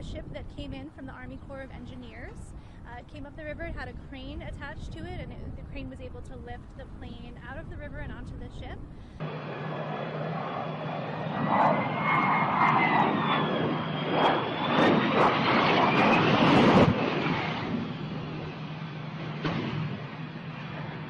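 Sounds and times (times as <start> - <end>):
airplane engine roar: 0.0 - 21.0
high turbine whine: 0.0 - 21.0.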